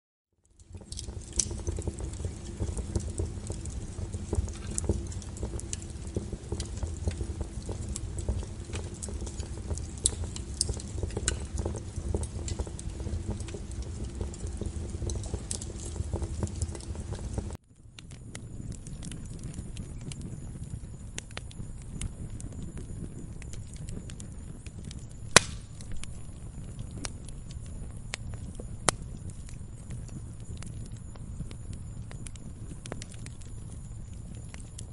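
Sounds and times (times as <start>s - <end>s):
fire crackling and popping: 0.4s - 34.9s
low rush of flame: 0.4s - 34.9s.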